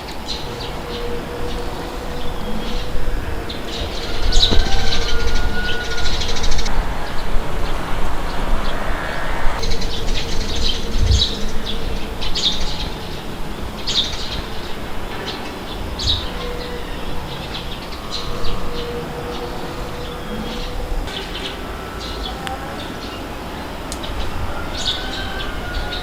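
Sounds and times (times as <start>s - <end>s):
birds chirping: 0.0s - 26.0s
wind blowing: 0.0s - 26.0s.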